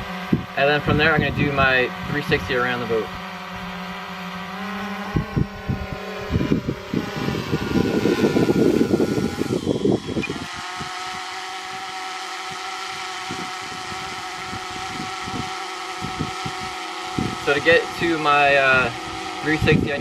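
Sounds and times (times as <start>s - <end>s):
drone propellers humming: 0.0s - 20.0s
low rumbling buffets: 0.0s - 20.0s.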